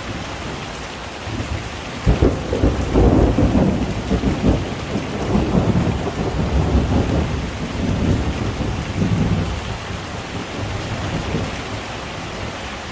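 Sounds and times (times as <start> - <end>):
heavy rain falling: 0.0 - 12.9.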